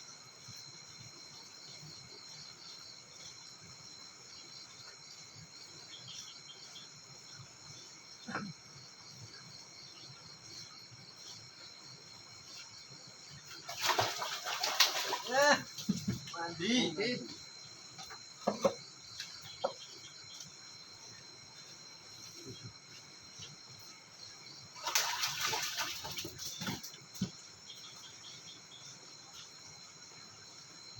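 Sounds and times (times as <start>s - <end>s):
crickets and insects trilling: 0.0s - 30.9s.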